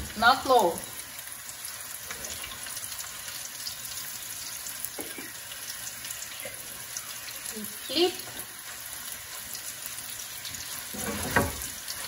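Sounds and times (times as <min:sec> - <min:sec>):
crackles of frying oil: 0:00.0 - 0:12.0
vegetables frying in oil: 0:00.0 - 0:12.0.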